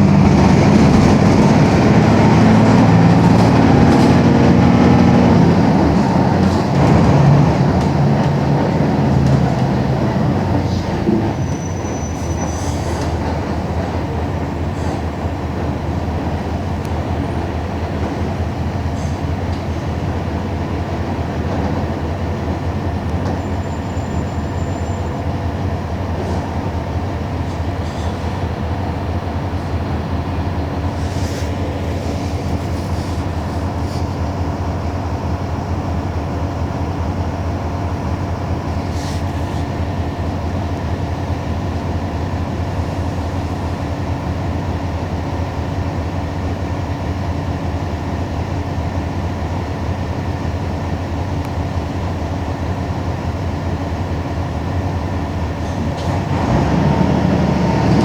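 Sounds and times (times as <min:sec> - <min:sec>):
diesel bus engine humming: 0:00.0 - 0:58.0.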